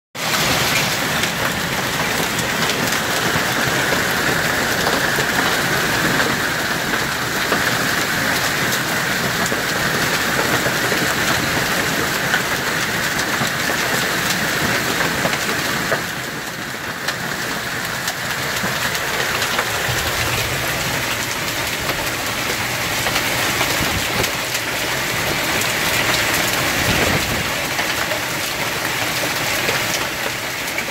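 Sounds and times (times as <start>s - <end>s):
hailstones pattering: 0.2s - 30.9s.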